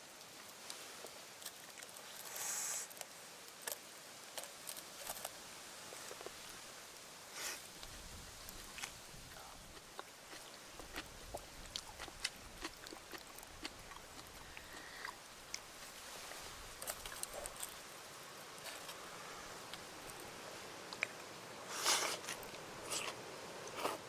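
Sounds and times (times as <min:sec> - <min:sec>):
campfire crackling: 0:00.0 - 0:24.0
faint steady hiss: 0:00.0 - 0:24.0.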